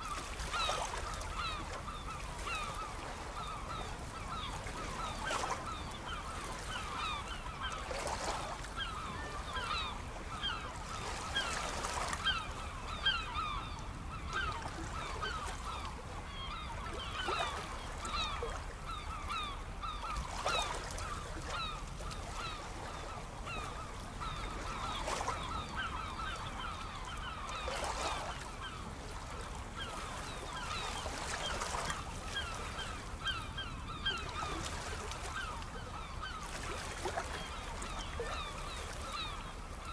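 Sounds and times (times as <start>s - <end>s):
flock of birds calling: 0.2s - 39.9s.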